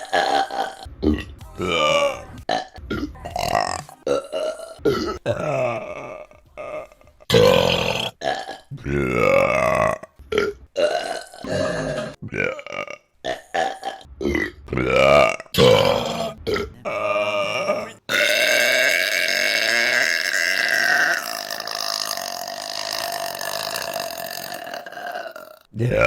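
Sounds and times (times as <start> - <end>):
women burping loudly: 0.0 - 26.0.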